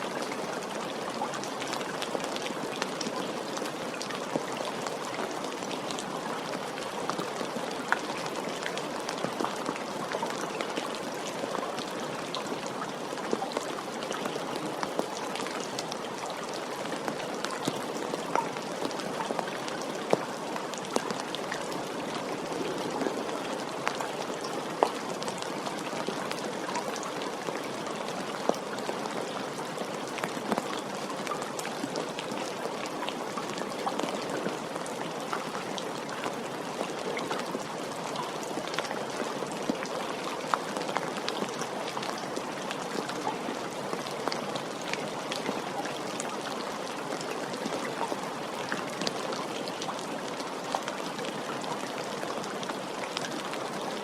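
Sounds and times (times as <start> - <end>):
raindrops ticking on surface: 0.1 - 54.0.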